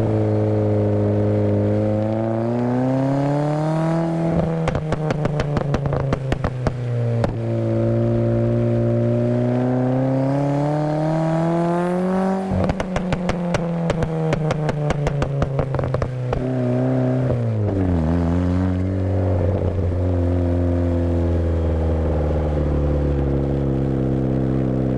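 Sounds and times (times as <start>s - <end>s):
car engine crackling and popping: 0.0s - 24.9s.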